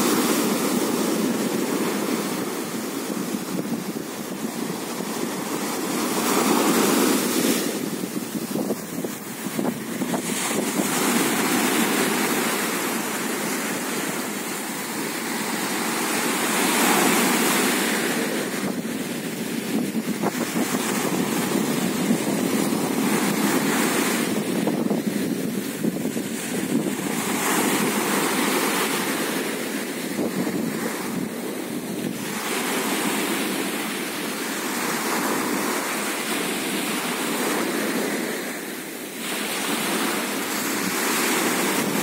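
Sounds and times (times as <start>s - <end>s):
waves breaking on shore: 0.0s - 42.0s.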